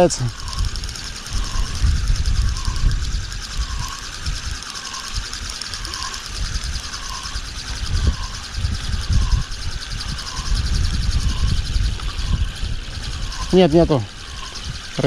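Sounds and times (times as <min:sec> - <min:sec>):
fishing reel gears whirring: 0:00.0 - 0:15.0
wind buffeting microphone: 0:00.0 - 0:15.0.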